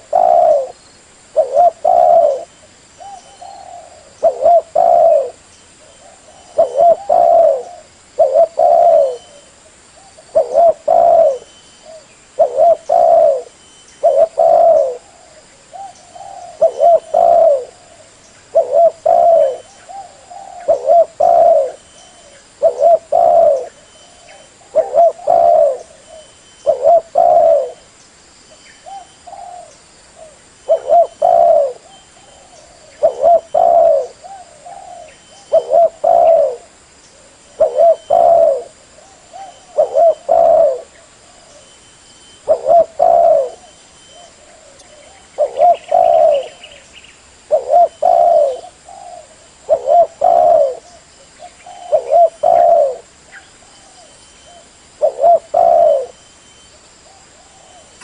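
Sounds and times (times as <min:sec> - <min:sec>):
dove cooing: 0:00.0 - 0:27.9, 0:28.8 - 0:58.0.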